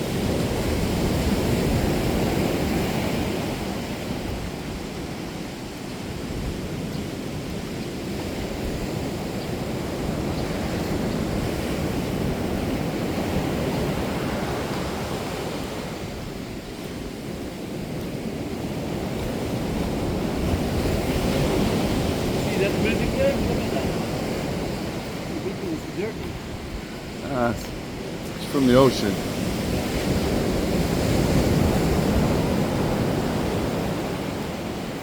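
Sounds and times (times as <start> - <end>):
ocean surf washing in: 0.0 - 35.0
wind buffeting microphone: 0.0 - 35.0.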